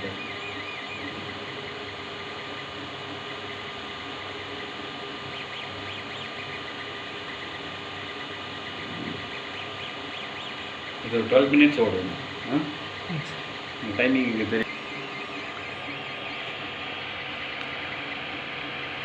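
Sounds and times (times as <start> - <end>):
fan hum: 0.0 - 19.0
stepper motors whining chirps: 0.0 - 19.0.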